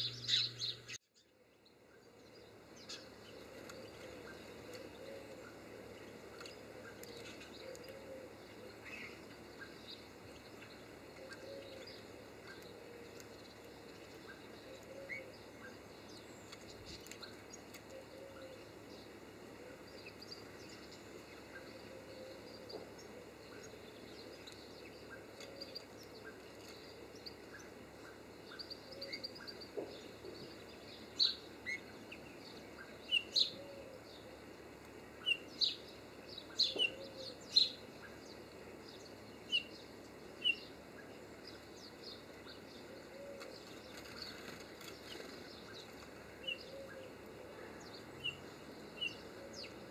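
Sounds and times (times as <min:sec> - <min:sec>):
steady background hiss: 0:00.0 - 0:49.9.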